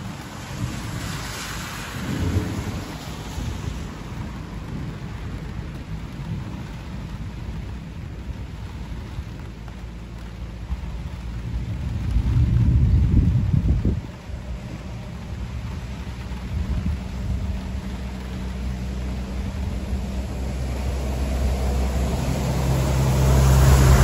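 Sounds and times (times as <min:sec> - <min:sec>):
rain hissing: 0:00.0 - 0:24.0
thunder rumbling: 0:00.0 - 0:24.0.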